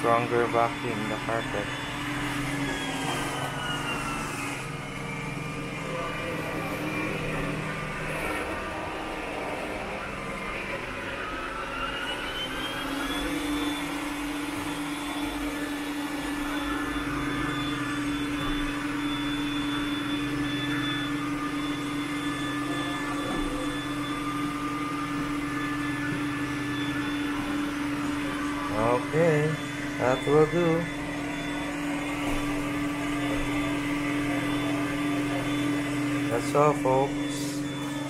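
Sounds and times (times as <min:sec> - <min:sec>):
robot vacuum fan whine: 0:00.0 - 0:38.0.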